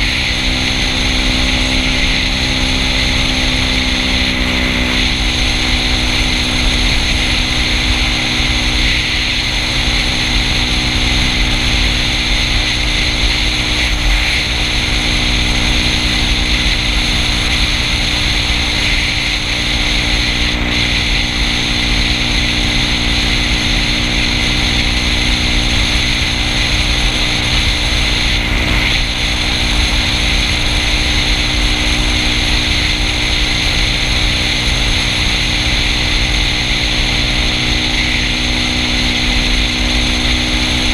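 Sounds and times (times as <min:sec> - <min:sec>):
scooter engine cruising: 0:00.0 - 0:40.9
wind rushing over microphone: 0:00.0 - 0:40.9.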